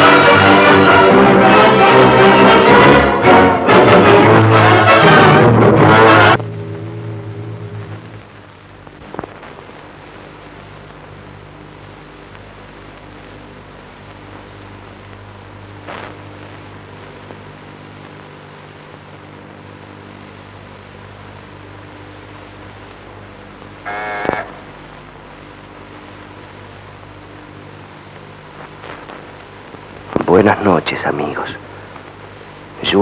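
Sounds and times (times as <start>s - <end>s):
film soundtrack hum and hiss: 0.0s - 33.0s.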